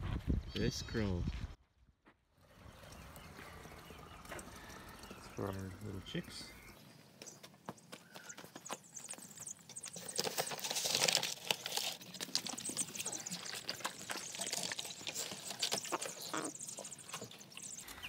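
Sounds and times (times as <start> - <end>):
straw rustling: 2.4 - 18.0.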